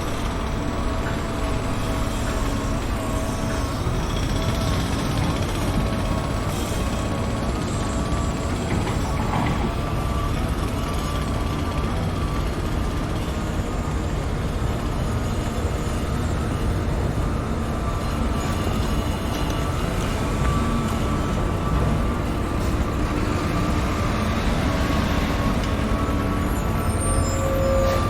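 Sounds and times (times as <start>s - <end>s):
construction machinery engine rumble: 0.0s - 28.0s
wavering machine whine: 0.0s - 28.0s.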